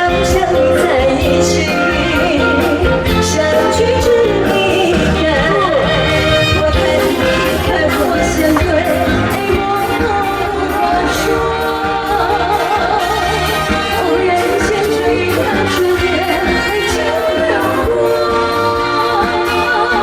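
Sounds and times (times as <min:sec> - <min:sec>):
band playing with drum beat: 0:00.0 - 0:20.0
woman singing pop ballad: 0:00.0 - 0:20.0.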